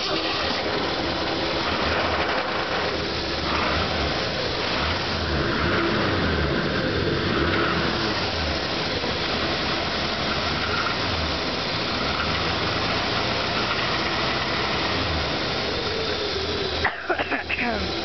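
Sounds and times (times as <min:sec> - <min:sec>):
pickup engine turning over: 0:00.0 - 0:18.0.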